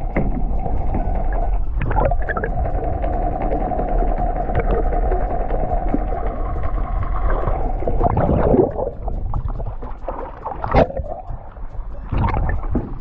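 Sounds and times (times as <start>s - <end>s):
muffled underwater churning: 0.0s - 13.0s
steady hum: 0.0s - 13.0s.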